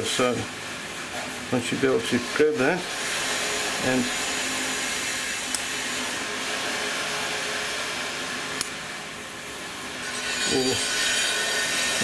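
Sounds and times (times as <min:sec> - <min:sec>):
steady fan-like hiss: 0:00.0 - 0:12.0.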